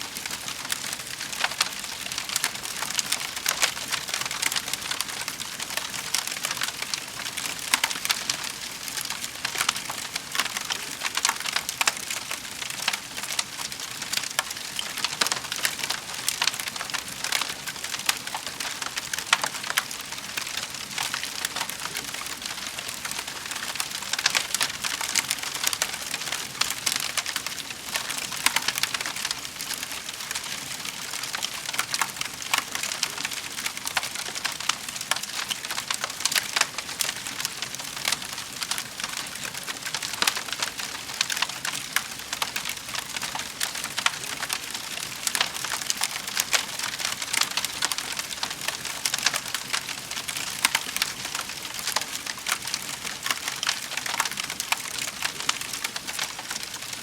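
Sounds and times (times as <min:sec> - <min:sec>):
fire crackling and popping: 0:00.1 - 0:57.0.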